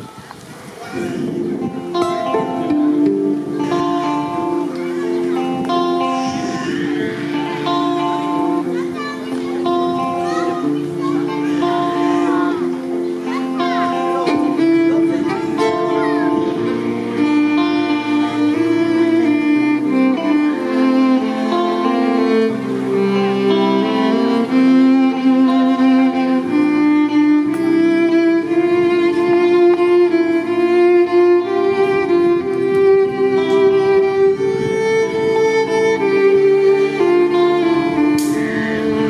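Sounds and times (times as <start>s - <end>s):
backing track with bass: 1.0s - 39.0s
violin slow melody: 1.0s - 39.0s.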